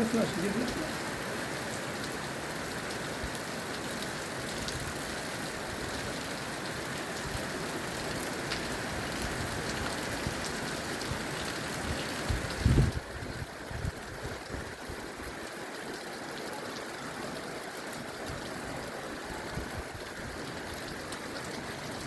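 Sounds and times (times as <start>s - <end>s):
rain hissing: 0.0s - 22.0s
raindrops ticking on surface: 0.0s - 22.0s.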